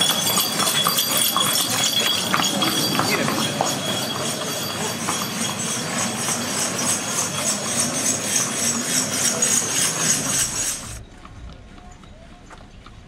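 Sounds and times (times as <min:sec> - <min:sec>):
harness bells jingling: 0:00.0 - 0:11.0
hooves clip-clopping on pavement: 0:00.0 - 0:13.0.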